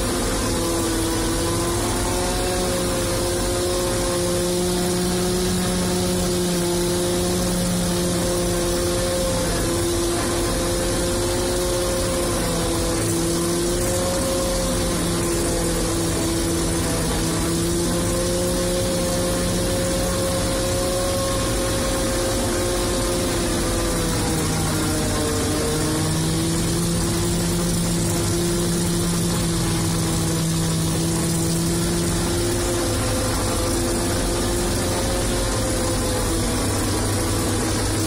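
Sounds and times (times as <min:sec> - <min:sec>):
forage harvester droning with whine: 0:00.0 - 0:38.0.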